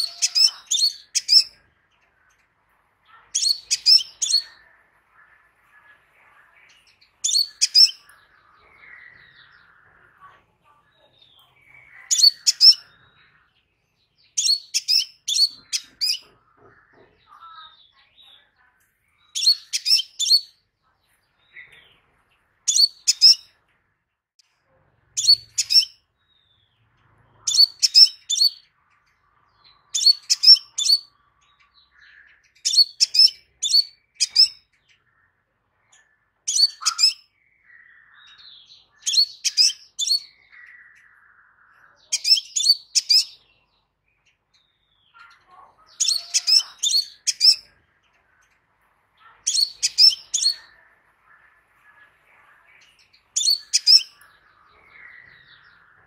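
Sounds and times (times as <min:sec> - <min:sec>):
bird chirping: 0:00.0 - 0:56.0
soft bird twitters: 0:00.0 - 0:56.0.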